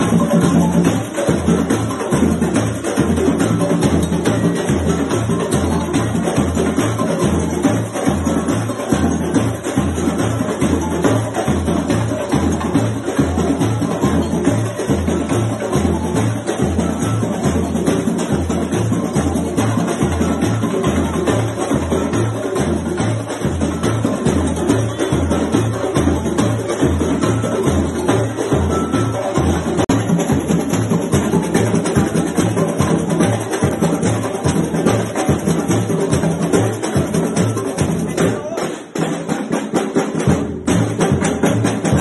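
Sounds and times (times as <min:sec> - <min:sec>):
samba percussion music: 0:00.0 - 0:42.0.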